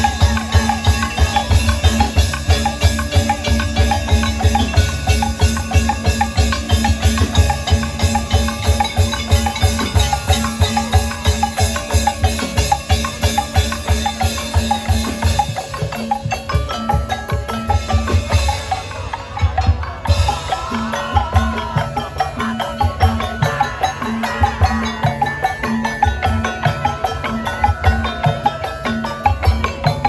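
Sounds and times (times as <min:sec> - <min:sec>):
driving drum beat: 0:00.0 - 0:30.0
pitched percussion melody: 0:00.0 - 0:30.0.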